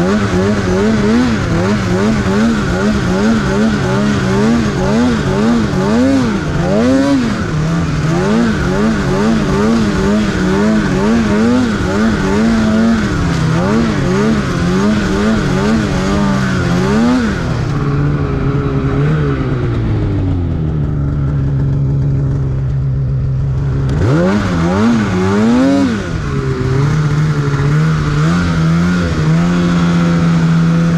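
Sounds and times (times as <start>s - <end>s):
snowmobile engine revving: 0.0s - 30.9s.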